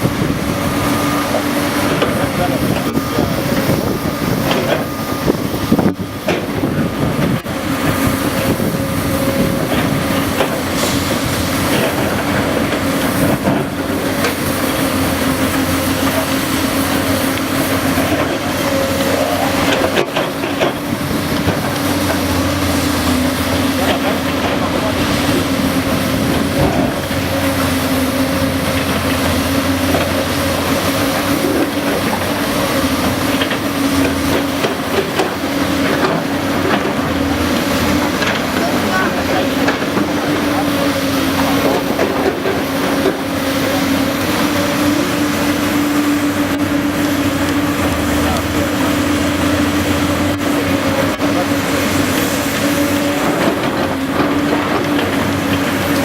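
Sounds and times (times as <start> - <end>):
excavator engine humming: 0.0 - 56.0
hydraulic whine: 0.0 - 56.0.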